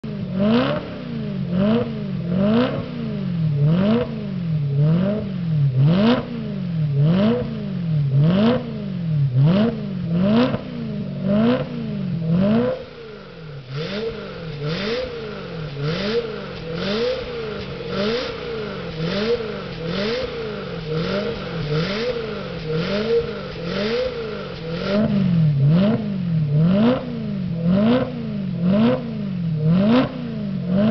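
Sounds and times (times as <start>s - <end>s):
car engine revving: 0.0s - 30.9s.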